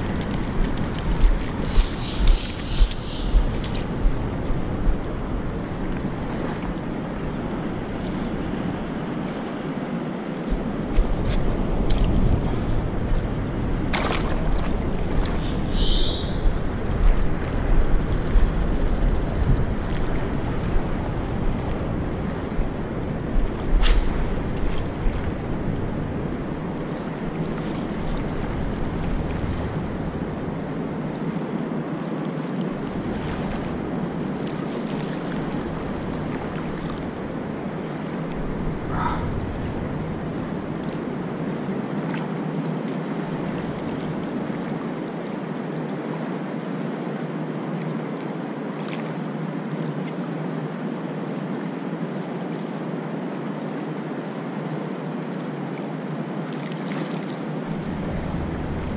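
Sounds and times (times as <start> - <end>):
wind rumbling on microphone: 0.0 - 45.2, 56.9 - 58.9
small waves lapping on sand: 0.0 - 58.9.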